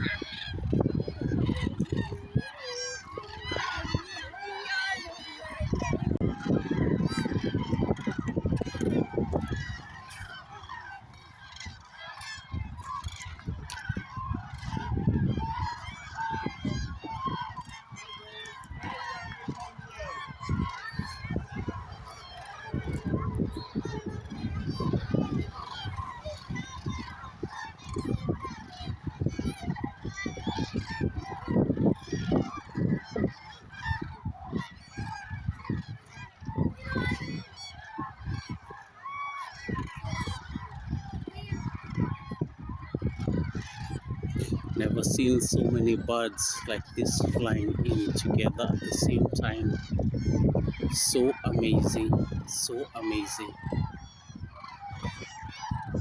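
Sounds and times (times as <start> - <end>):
flock of cranes trumpeting: 0.0 - 56.0.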